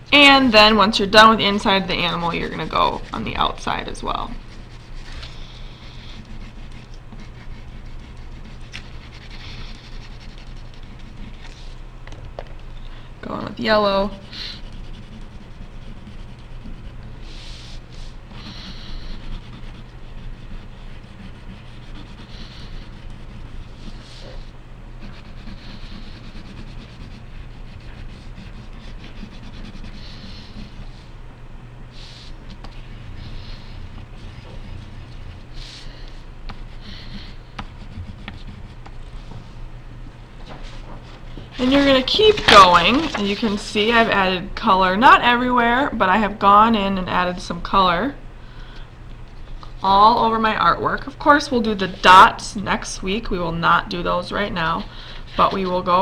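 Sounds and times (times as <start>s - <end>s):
steady low hum: 0.0s - 56.0s
wax crayon rubbing on paper: 0.2s - 11.9s, 12.7s - 39.8s, 41.4s - 48.2s, 49.3s - 56.0s.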